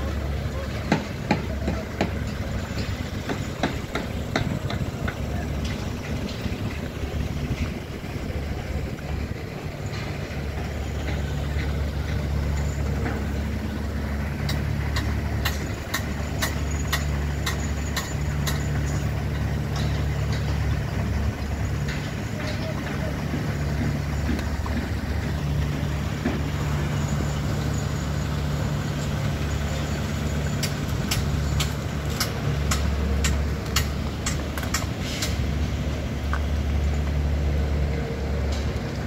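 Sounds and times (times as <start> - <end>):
large engine idling: 0.0 - 39.0.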